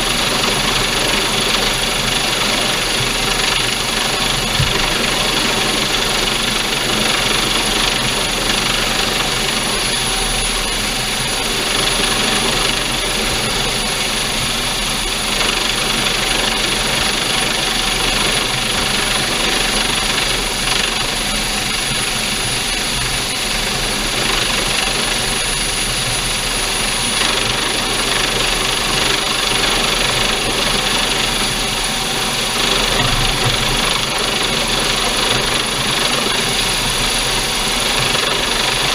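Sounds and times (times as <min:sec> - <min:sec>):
helicopter rotor rushing: 0:00.0 - 0:38.9
high turbine whine: 0:00.0 - 0:38.9.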